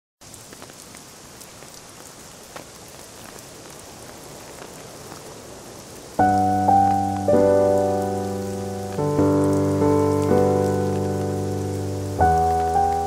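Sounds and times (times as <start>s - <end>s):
steady rain hiss: 0.2s - 13.0s.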